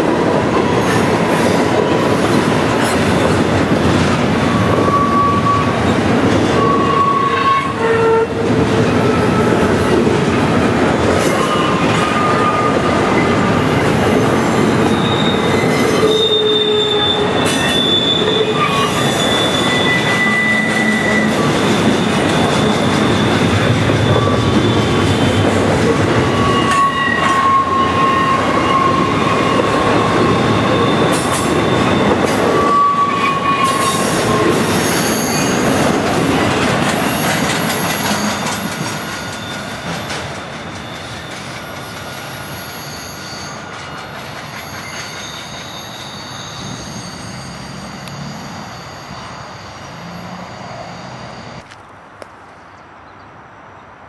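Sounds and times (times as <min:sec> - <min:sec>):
train cars rumbling and clattering: 0:00.0 - 0:51.7
wheel flanges squealing on rail: 0:00.3 - 0:51.8.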